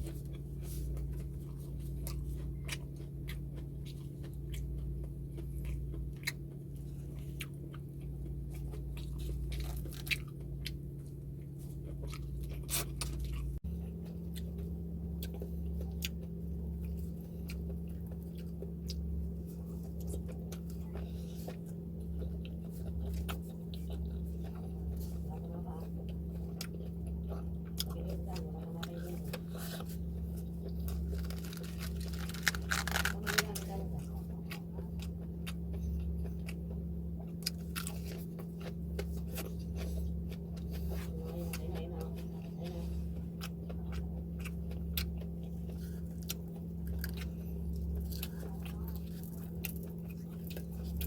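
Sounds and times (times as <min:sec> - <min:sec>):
low hum: 0:00.0 - 0:51.0
person chewing food: 0:00.0 - 0:51.0.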